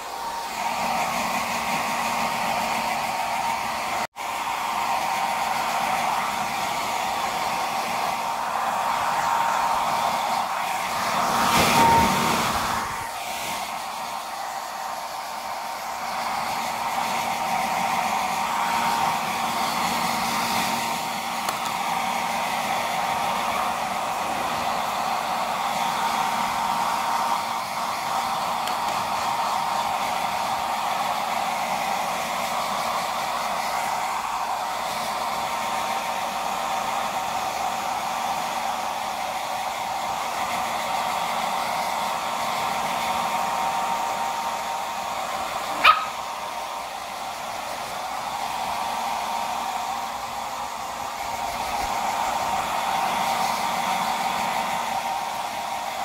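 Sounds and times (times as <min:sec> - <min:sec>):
hair dryer blowing air: 0:00.0 - 0:56.0.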